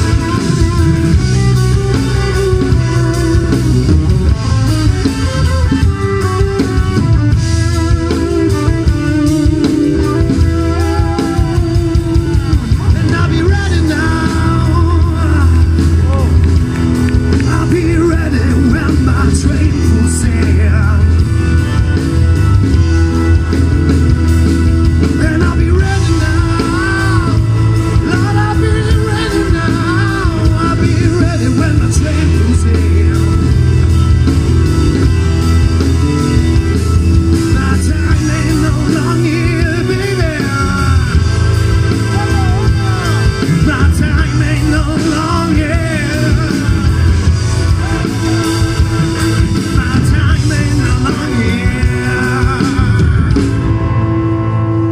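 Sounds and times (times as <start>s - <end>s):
drum kit: 0.0s - 54.9s
electric bass: 0.0s - 54.9s
electric guitar: 0.0s - 54.9s
organ: 0.0s - 54.9s.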